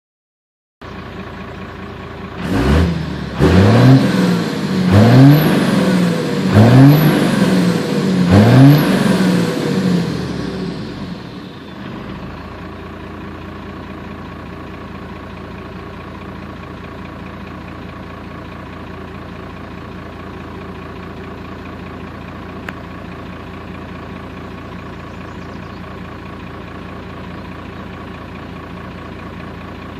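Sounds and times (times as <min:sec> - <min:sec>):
diesel engine idling and revving: 0:00.8 - 0:29.9.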